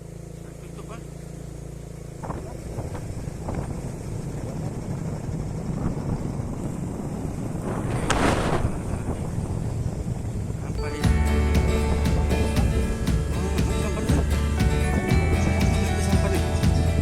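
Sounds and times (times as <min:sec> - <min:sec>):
wind buffeting microphone: 0:02.2 - 0:17.0.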